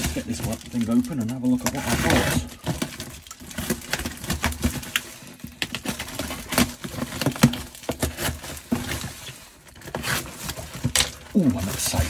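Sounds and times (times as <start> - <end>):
plastic wrapping crinkling and tearing: 0.0 - 12.0.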